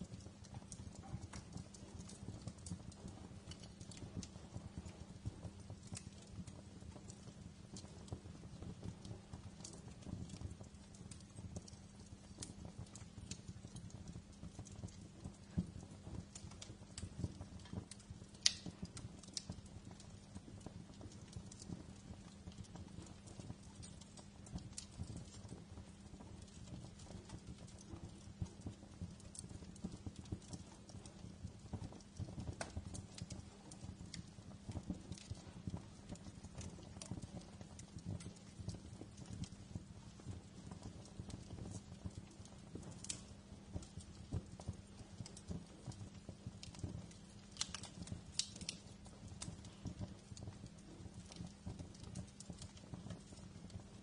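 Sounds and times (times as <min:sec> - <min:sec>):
flames low rumble: 0:00.0 - 0:54.0
wood fire crackling: 0:00.0 - 0:54.0.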